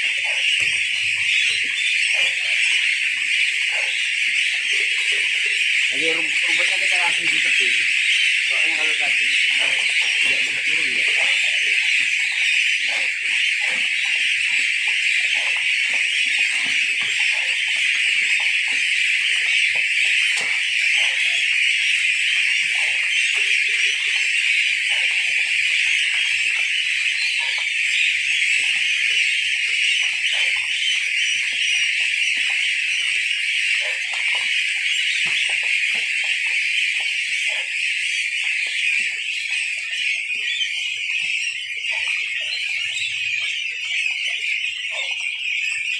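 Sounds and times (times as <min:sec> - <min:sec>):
goslings peeping: 0:00.0 - 0:45.9.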